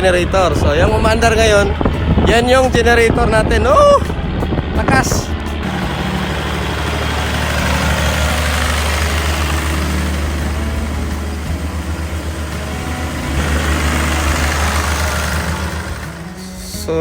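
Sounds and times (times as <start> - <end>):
generator engine humming: 0.0 - 17.0.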